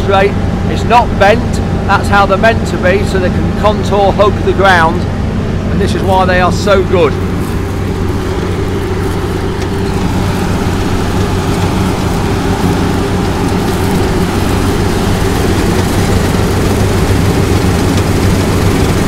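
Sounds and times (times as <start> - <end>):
combine harvester engine drone: 0.0 - 19.0.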